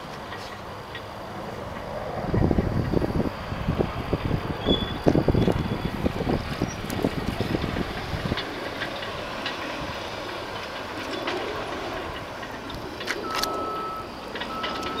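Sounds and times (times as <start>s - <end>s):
distant machinery clattering: 0.0s - 15.0s.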